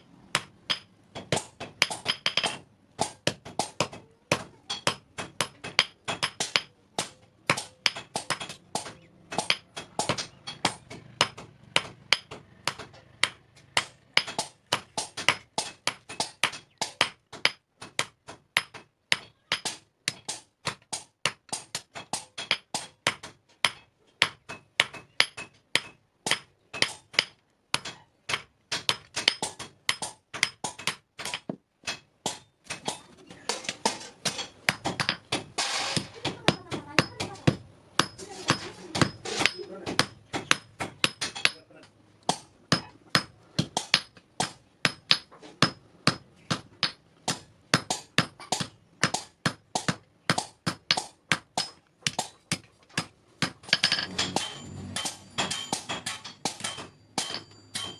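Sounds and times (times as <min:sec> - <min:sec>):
hammer striking steel on anvil: 0:04.7 - 0:41.7, 0:42.3 - 0:57.9.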